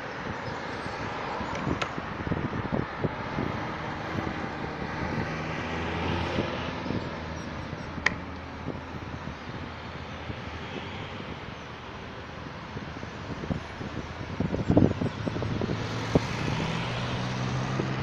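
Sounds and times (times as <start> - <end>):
cars passing: 0.0 - 18.0
engine hum: 0.0 - 18.0.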